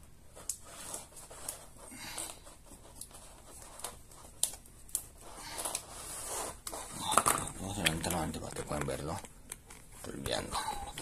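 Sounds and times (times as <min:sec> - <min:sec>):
soft scraping and rustling: 0:00.3 - 0:11.0.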